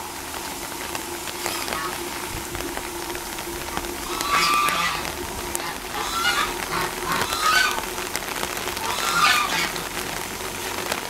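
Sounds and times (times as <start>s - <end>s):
rain hissing: 0.0s - 11.0s
waterfowl calling: 0.4s - 11.0s.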